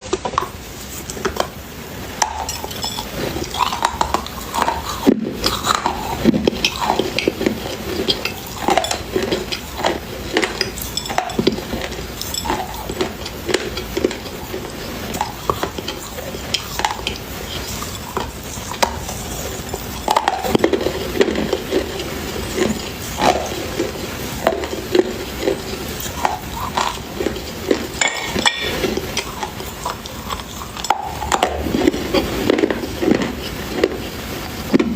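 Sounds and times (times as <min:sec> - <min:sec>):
dry clay being chewed: 0:00.0 - 0:34.9.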